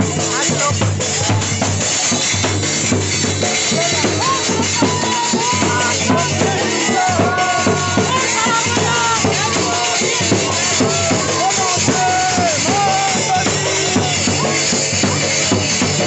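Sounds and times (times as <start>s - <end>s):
steady drumbeat: 0.0s - 16.0s.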